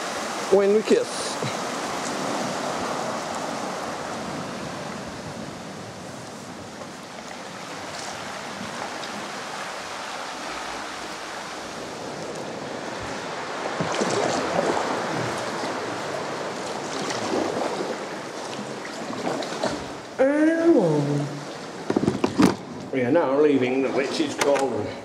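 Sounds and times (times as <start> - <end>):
sea water sloshing in cave: 0.0 - 20.2.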